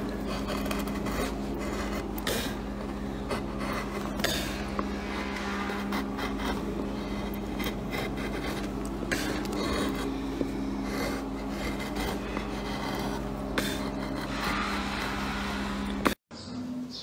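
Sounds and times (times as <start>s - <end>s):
scraping on wood carving: 0.0s - 16.2s
low hum: 0.0s - 16.9s.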